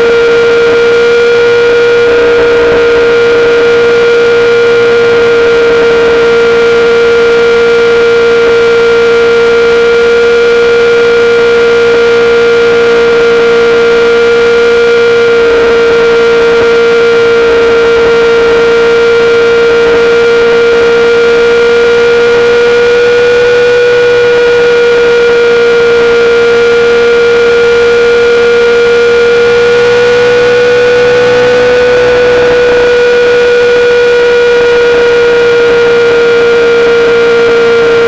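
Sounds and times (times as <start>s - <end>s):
motorcycle engine at high revs: 0.0s - 38.0s.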